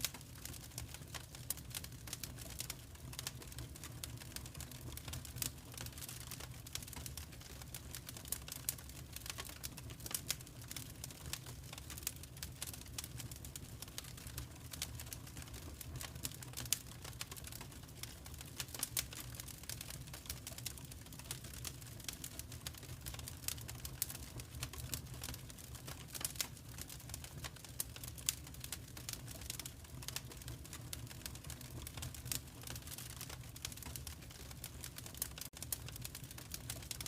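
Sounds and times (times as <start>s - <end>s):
fireplace fire crackling: 0.0s - 37.0s.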